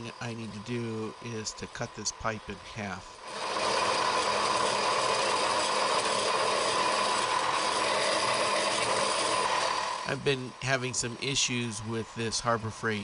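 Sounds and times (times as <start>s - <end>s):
bandsaw cutting metal pipe: 0.0s - 13.0s.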